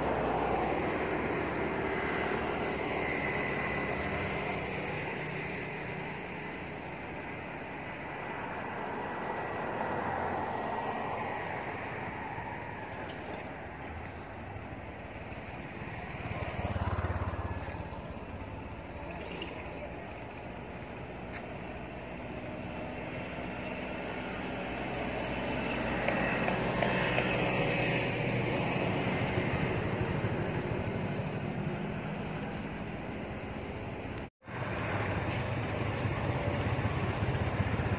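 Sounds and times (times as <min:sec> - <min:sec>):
outdoor background noise: 0:00.0 - 0:37.9
vehicle engine hum: 0:00.0 - 0:37.9.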